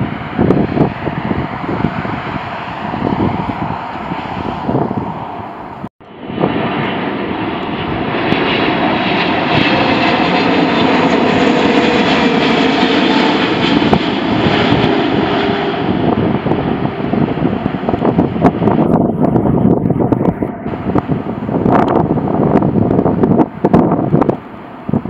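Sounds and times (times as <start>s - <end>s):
jet engines rushing whine: 0.0s - 25.0s.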